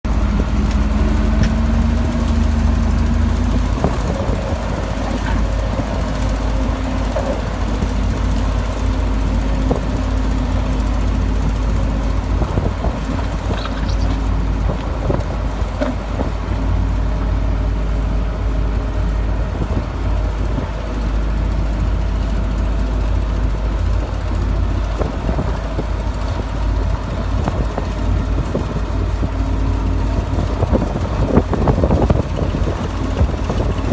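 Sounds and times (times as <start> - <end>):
bulldozer diesel engine rumbling: 0.0 - 33.9.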